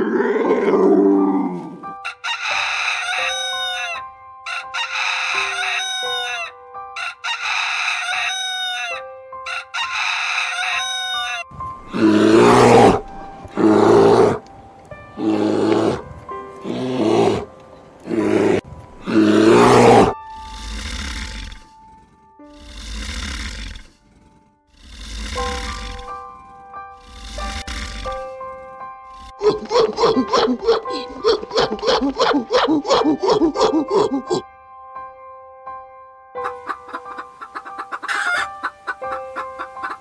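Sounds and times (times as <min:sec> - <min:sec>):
animal calls: 0:00.0 - 0:04.0, 0:04.6 - 0:06.5, 0:09.6 - 0:14.4, 0:15.2 - 0:34.4, 0:36.4 - 0:40.0
soft background music: 0:00.0 - 0:40.0.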